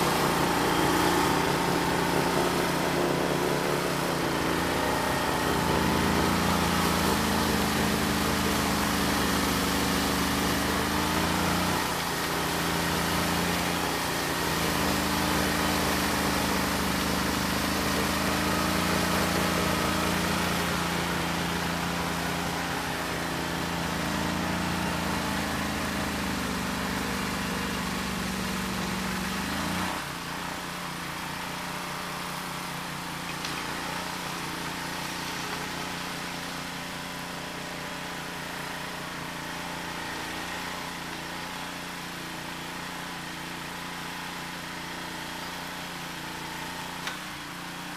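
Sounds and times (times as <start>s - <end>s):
snow blower engine running: 0.0s - 47.9s.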